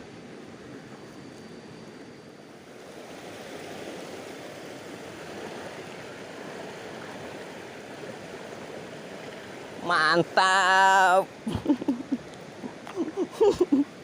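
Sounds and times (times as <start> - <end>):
river current rushing: 0.0 - 14.0.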